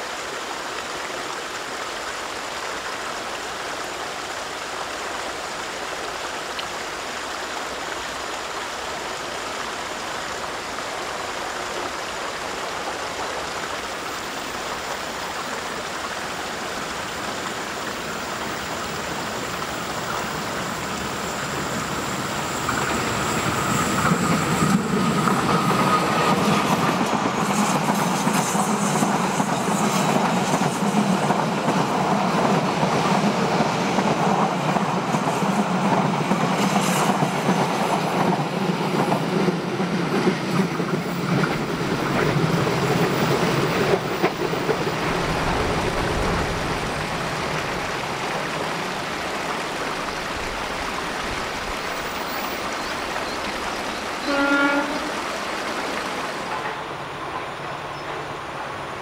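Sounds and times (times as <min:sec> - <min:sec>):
passenger train rumbling past: 0:08.0 - 0:59.0.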